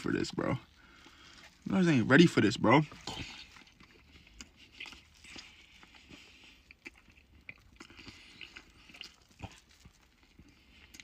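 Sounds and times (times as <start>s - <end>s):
chewing with mouth clicks: 0.0s - 11.0s.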